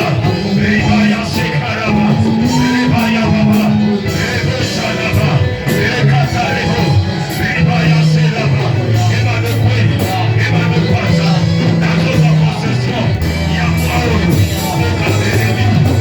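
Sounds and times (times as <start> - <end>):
long held bass notes: 0.0 - 16.0
worship band playing: 0.0 - 16.0.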